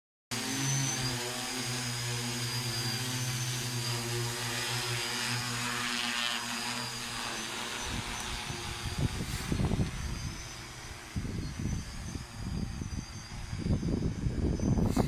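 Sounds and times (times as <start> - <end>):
drone propellers droning: 0.3 - 15.0.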